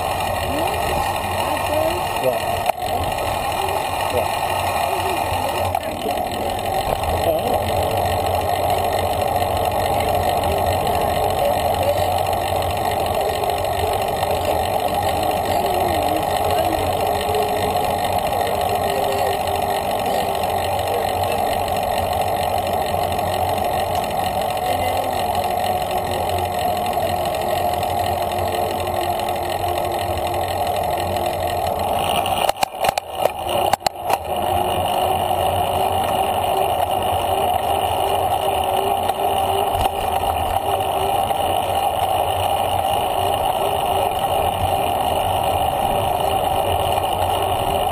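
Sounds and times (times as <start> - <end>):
bicycle tyres rolling on pavement: 0.0 - 47.9.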